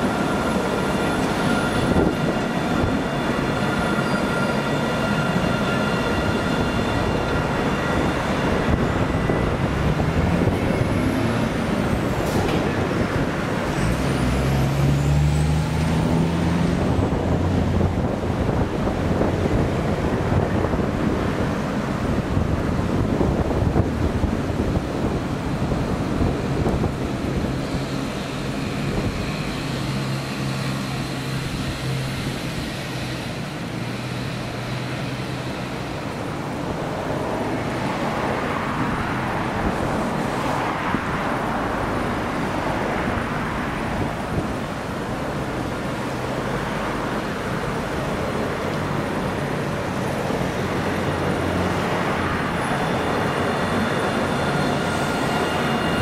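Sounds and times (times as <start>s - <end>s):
city traffic noise: 0.0s - 56.0s
tram running on track: 0.0s - 56.0s.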